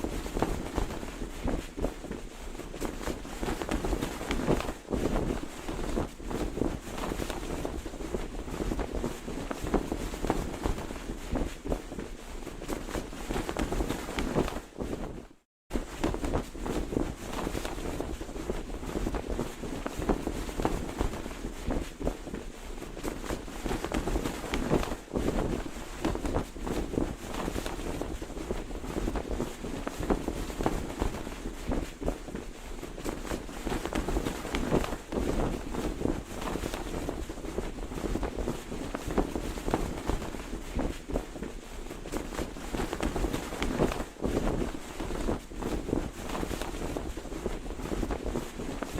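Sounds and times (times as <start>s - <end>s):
flag flapping in the wind: 0.0s - 48.9s.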